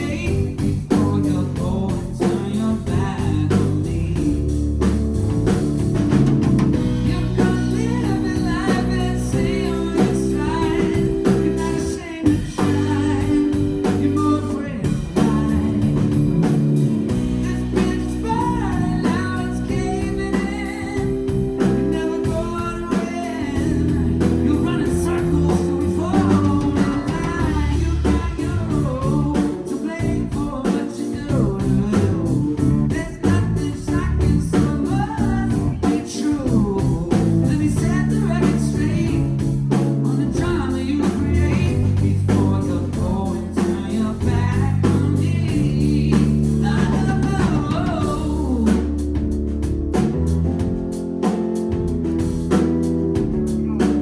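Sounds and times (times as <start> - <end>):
person singing lead vocals: 0.0 - 5.0, 6.0 - 49.4, 53.2 - 54.0
live band guitar and beat: 0.0 - 54.0.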